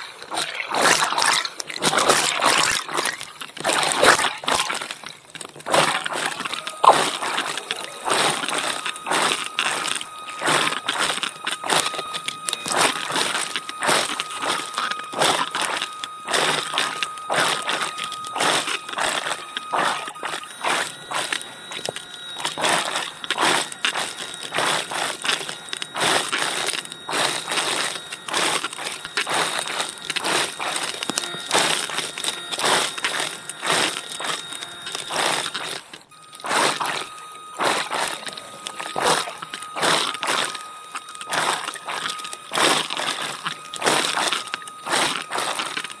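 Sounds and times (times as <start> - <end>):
thin motor whine: 0.0 - 46.0.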